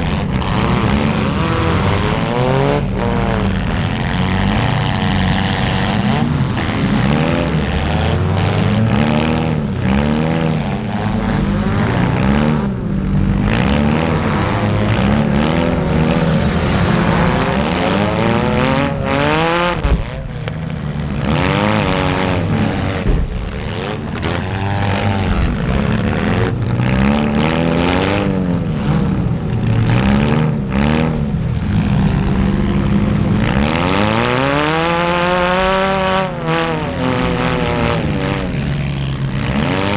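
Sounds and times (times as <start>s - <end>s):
small car engines revving: 0.0s - 39.9s.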